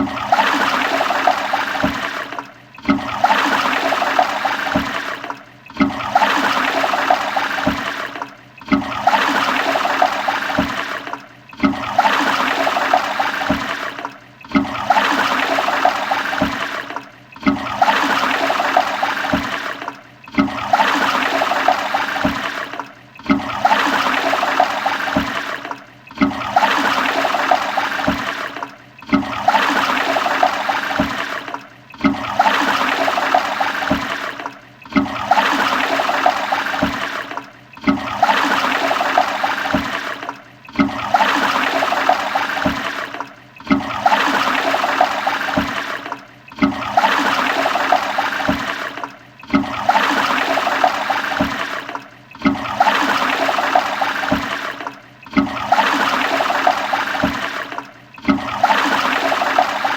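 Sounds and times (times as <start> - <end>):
toilet flushing: 0.0 - 59.9.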